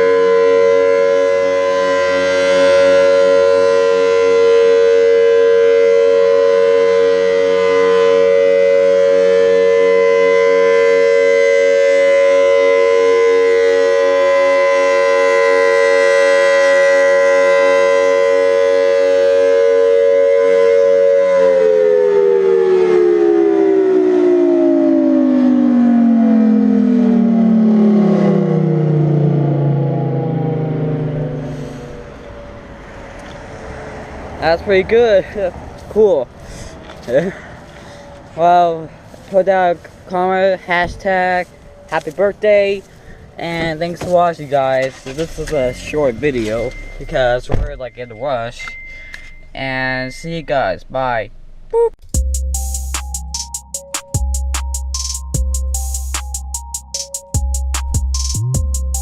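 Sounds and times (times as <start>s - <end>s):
warning siren two-note tone: 0.0s - 34.4s, 45.0s - 50.6s, 51.8s - 59.0s.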